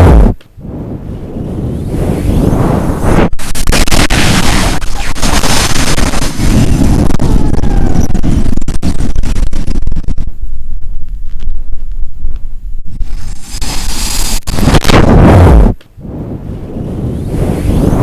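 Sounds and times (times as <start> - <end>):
wind gusting against microphone: 0.0 - 18.0.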